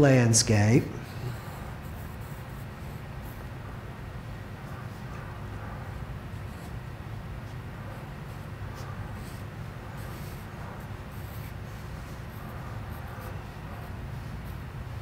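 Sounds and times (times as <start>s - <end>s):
low room hum: 0.0s - 15.0s
pencil scratching on paper: 1.0s - 15.0s.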